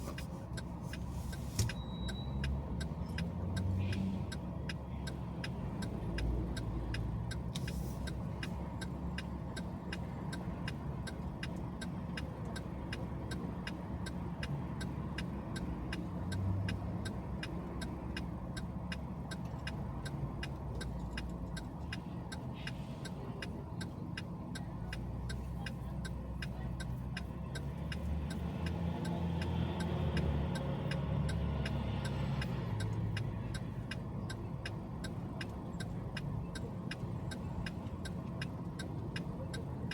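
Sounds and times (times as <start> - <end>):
engine and tyre rumble: 0.0 - 39.9
faint ticking: 2.3 - 39.9.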